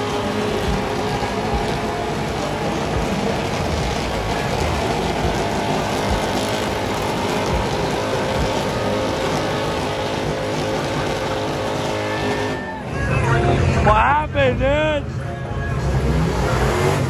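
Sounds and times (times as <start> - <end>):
truck engine running loud: 0.0 - 17.0.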